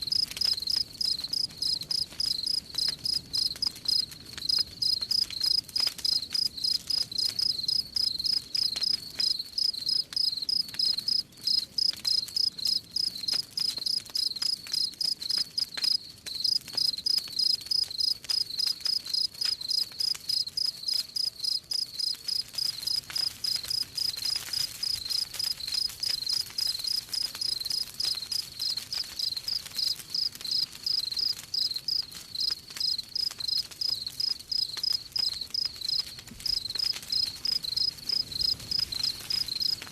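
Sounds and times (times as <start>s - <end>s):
campfire crackling: 0.0s - 39.9s
crickets chirping: 0.1s - 15.4s, 16.4s - 24.1s, 26.9s - 39.8s.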